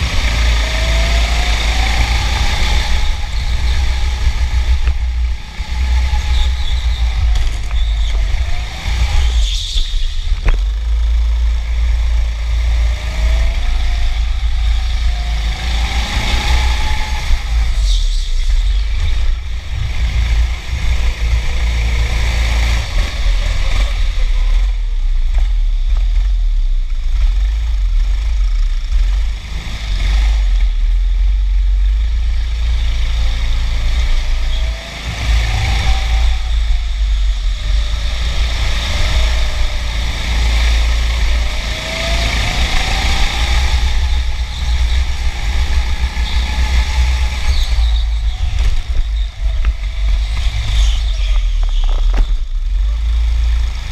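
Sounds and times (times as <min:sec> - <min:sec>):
go-kart motor: 0:00.0 - 0:53.9
wind rumble on camera: 0:00.0 - 0:53.9.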